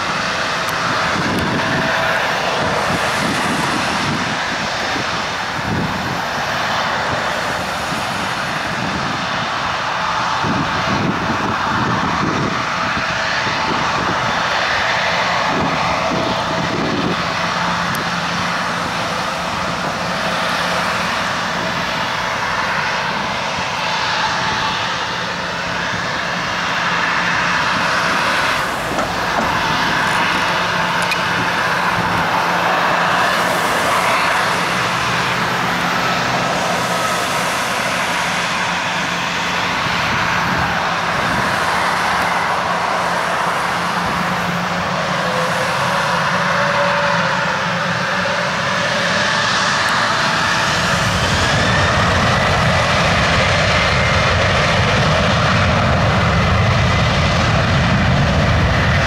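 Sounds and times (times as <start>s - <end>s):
jet engines idling whine: 0.0s - 59.0s.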